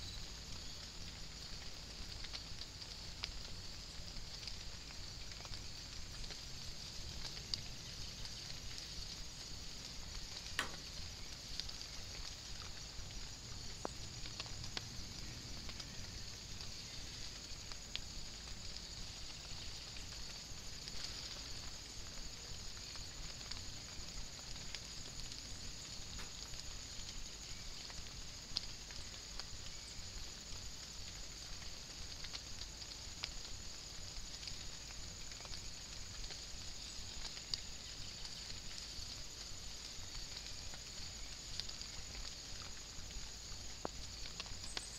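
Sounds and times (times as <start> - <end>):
light rain on leaves: 0.0 - 44.9
water drips ticking: 0.4 - 44.9.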